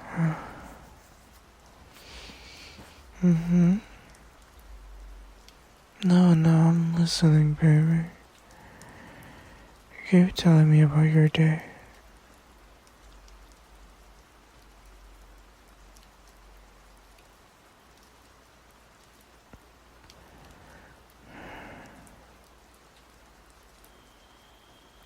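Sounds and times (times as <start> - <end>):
light rain: 0.0 - 25.0.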